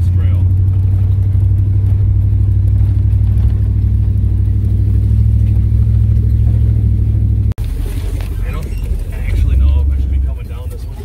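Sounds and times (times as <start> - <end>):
pickup truck engine rumble: 0.0 - 11.0.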